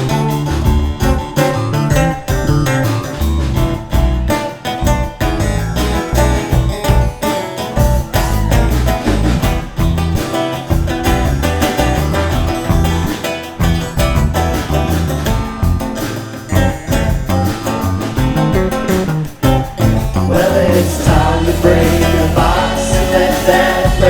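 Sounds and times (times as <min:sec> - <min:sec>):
bass: 0:00.0 - 0:24.0
guitar: 0:00.0 - 0:24.0
steady beat: 0:00.0 - 0:24.0.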